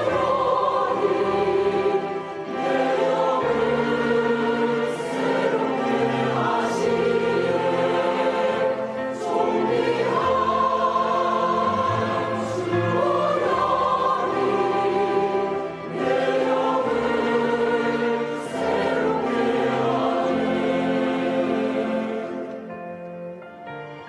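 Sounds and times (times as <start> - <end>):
choir singing a hymn: 0.0 - 22.8.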